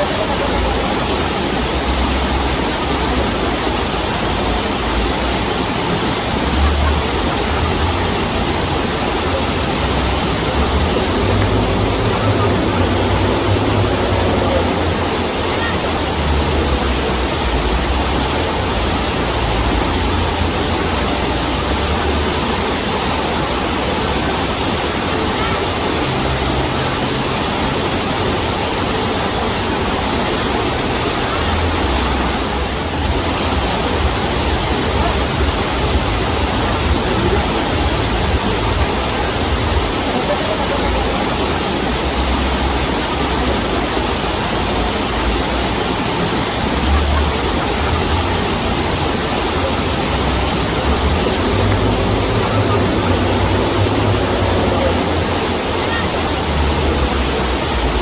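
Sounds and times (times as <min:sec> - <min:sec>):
waterfall rushing: 0:00.0 - 0:58.0
low rumble: 0:00.4 - 0:24.6, 0:30.5 - 0:45.8, 0:46.6 - 0:58.0.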